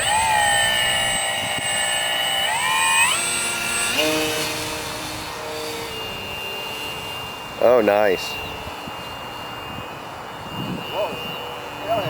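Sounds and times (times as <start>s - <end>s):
electric model plane motor whining: 0.0s - 12.0s.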